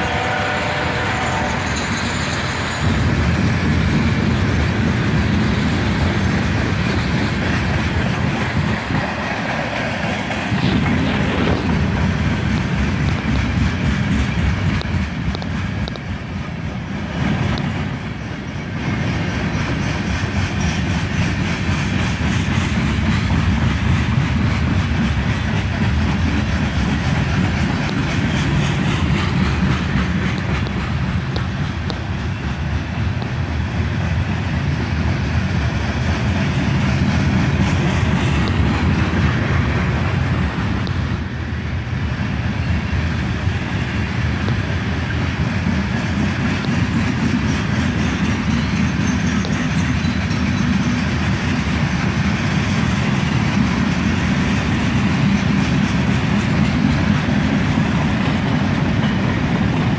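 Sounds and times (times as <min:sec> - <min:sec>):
steel wheels on rails: 0:00.0 - 0:59.9.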